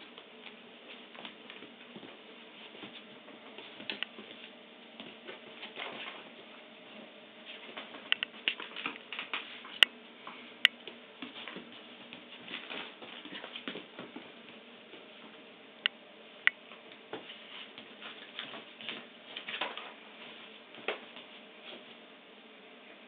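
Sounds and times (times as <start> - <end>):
paws pattering and rustling: 0.0 - 15.1, 16.7 - 22.0.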